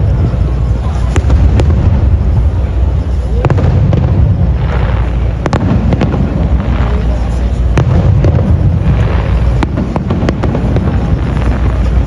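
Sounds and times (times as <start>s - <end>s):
crackling firework stars: 0.0s - 12.0s
low rumble of firework booms: 0.0s - 12.0s
sharp firework cracks: 0.0s - 12.0s.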